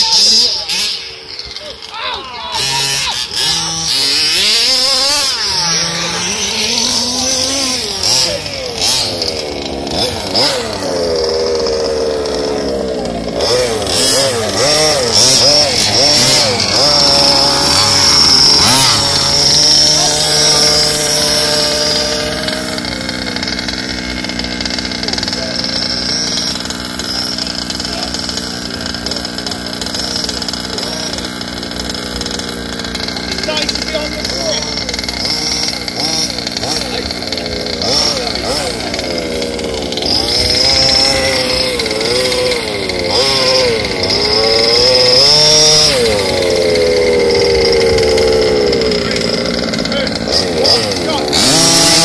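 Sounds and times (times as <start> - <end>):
small two-stroke engines revving: 0.0 - 52.0.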